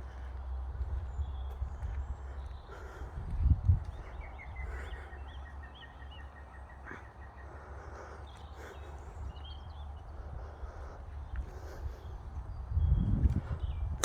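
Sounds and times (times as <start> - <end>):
steady low rumble: 0.0 - 5.5, 7.5 - 14.0
small birds chirping: 0.0 - 14.0.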